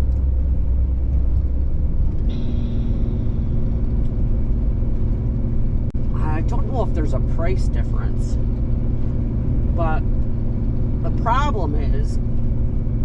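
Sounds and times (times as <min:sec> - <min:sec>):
steady higher hum: 0:00.0 - 0:13.0
van engine and road rumble: 0:00.0 - 0:13.0.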